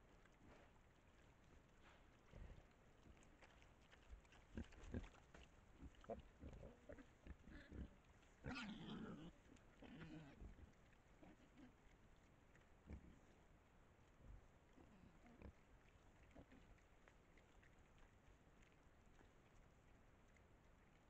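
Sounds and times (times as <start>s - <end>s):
hogs rooting and chewing: 0.0s - 21.0s.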